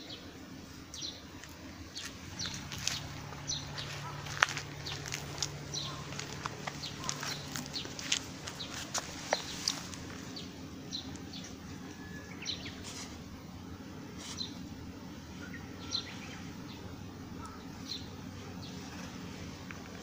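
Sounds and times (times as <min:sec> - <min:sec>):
low background hum: 0:00.0 - 0:20.0
small birds chirping: 0:00.0 - 0:20.0.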